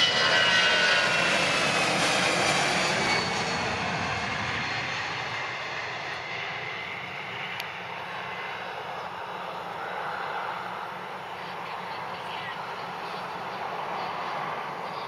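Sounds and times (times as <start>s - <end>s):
high engine whine: 0.0s - 15.0s
jet engines roaring: 0.0s - 15.0s.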